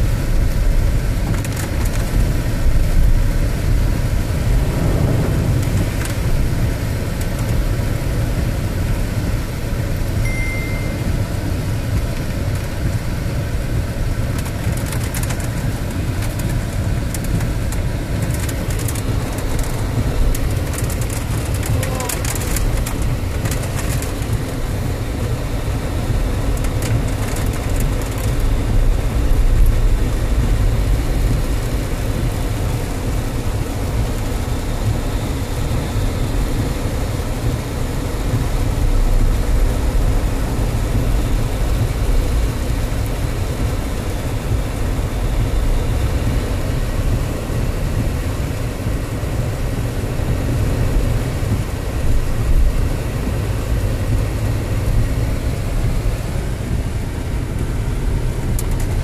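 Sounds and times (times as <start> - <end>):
rain and water spray hissing: 0.0 - 10.3, 11.1 - 59.0
engine and tyres rumbling: 0.0 - 59.0.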